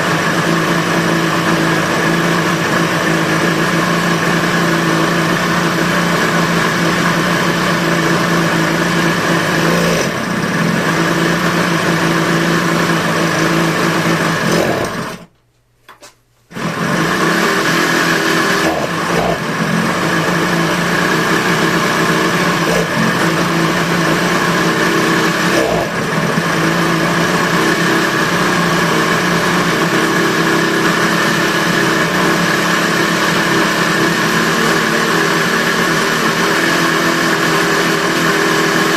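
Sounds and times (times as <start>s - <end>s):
two-stroke motorcycle engine running: 0.0s - 15.3s, 16.5s - 38.9s.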